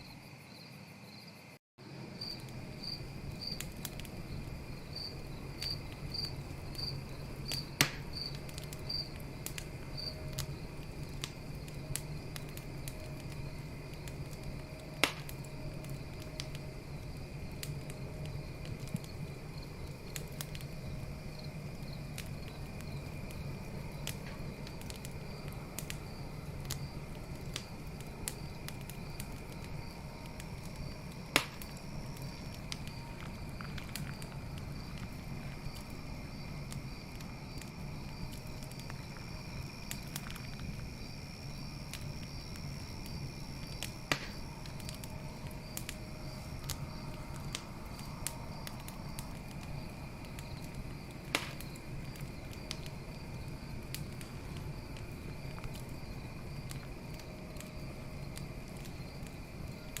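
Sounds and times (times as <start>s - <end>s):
crickets chirping: 0.0s - 60.0s
campfire crackling: 1.8s - 60.0s
loud fire pops: 2.2s - 60.0s.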